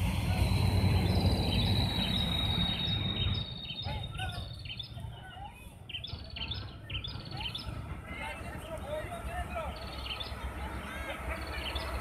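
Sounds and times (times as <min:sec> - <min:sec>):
small birds chirping: 0:00.9 - 0:12.0.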